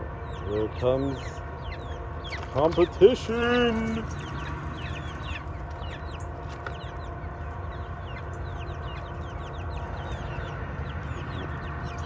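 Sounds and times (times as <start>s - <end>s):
hens chirping and clucking: 0.0s - 12.0s
steady low hum: 0.0s - 12.0s.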